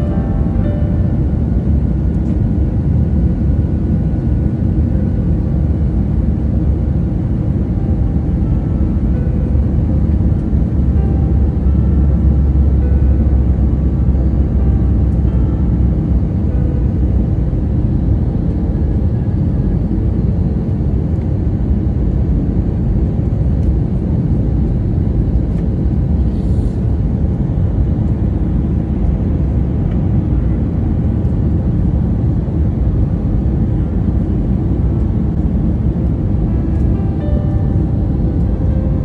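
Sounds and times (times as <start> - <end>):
jet engine cabin rumble: 0.0 - 39.0.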